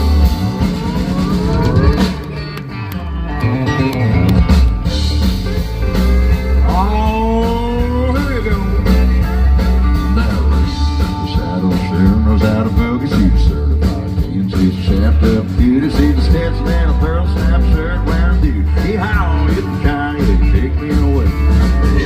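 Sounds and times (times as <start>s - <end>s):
live country band playing: 0.0s - 22.0s.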